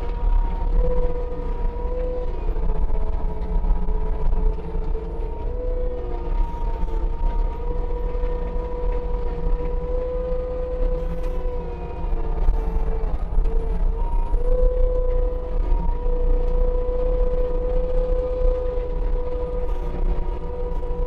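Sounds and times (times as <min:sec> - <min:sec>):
diesel engine rumble: 0:00.0 - 0:21.0
high steady whine: 0:00.0 - 0:21.0.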